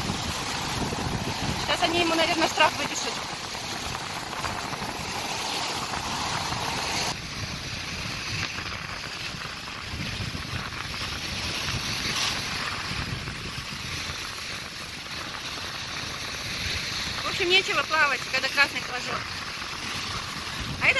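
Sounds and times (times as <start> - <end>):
sea surf washing up beach: 0.0 - 20.9
wind buffeting microphone: 0.0 - 20.9.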